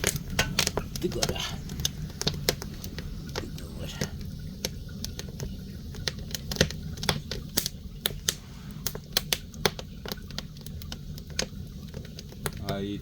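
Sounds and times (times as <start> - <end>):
low fire rumble: 0.0 - 13.0
wood fire pops and snaps: 0.0 - 13.0.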